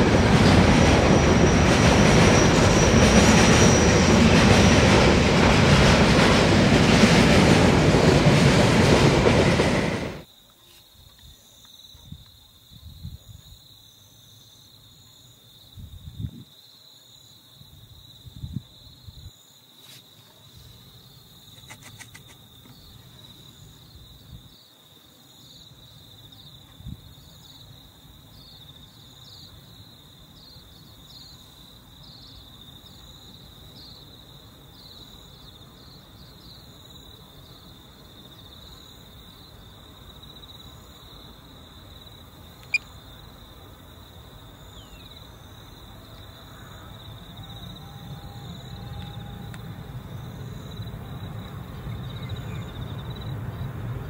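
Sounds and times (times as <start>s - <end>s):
insects chirping: 0.0s - 7.0s, 7.6s - 54.0s.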